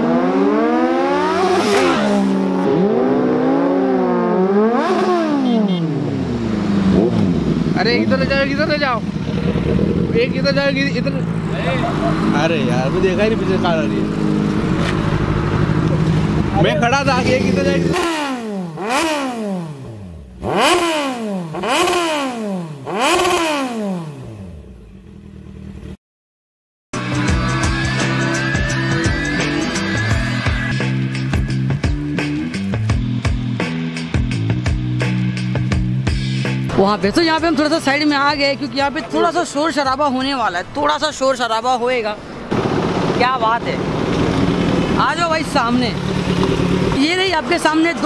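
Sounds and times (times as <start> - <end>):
motorcycle engines revving: 0.0 - 26.0, 27.5 - 48.0.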